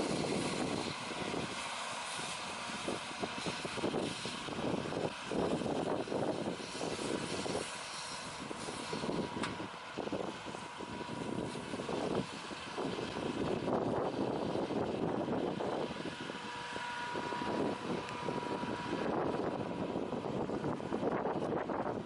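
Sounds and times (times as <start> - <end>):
farm machinery engines running: 0.0 - 22.0.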